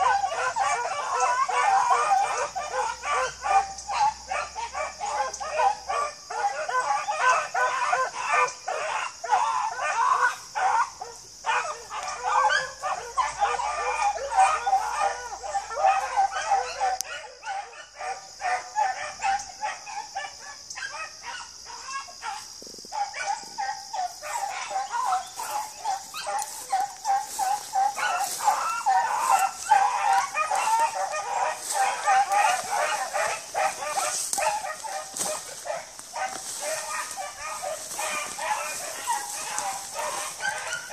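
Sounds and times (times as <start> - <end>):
dogs baying and yelping: 0.0 - 40.9.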